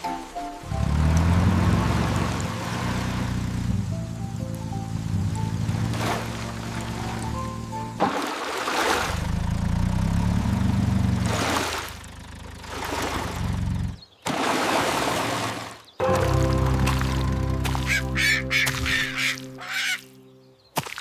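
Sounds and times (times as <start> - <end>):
cartoon car engine rumble: 0.6 - 8.0, 8.8 - 14.1, 15.4 - 19.6.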